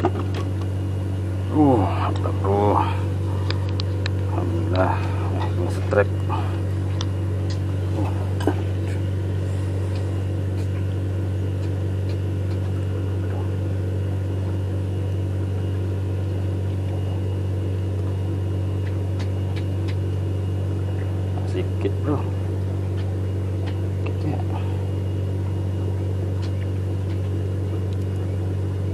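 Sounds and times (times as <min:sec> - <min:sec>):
motor humming: 0:00.0 - 0:28.9.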